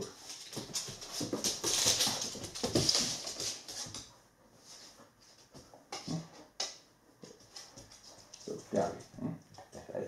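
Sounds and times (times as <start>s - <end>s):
dog paws clicking on wood floor: 0.0s - 10.0s.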